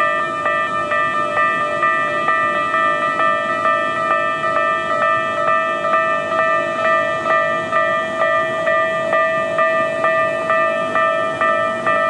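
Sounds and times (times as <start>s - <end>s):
level-crossing warning bell ringing: 0.0s - 12.0s.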